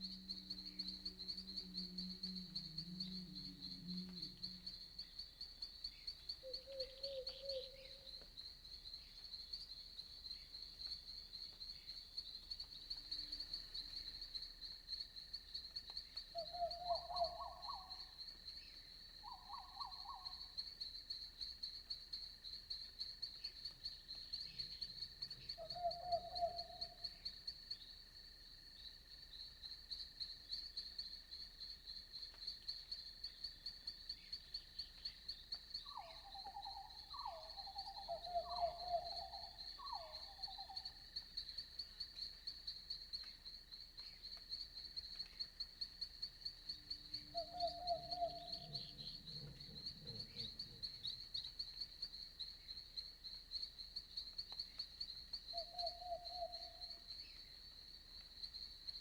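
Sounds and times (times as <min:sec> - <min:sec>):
crickets trilling: 0:00.0 - 0:59.0
faint steady insect whine: 0:00.0 - 0:59.0.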